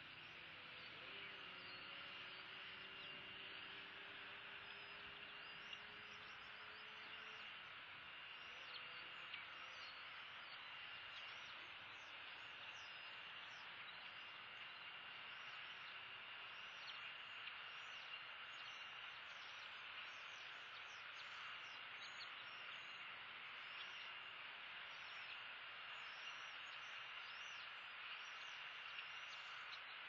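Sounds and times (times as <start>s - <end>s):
faint high chirps: 0.0s - 30.0s
steady hiss: 0.0s - 30.0s.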